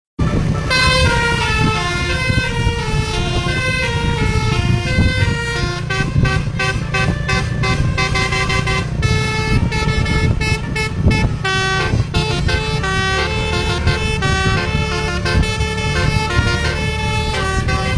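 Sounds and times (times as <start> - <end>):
bus air horn playing a tune: 0.2 - 17.9
low engine rumble: 0.2 - 17.9.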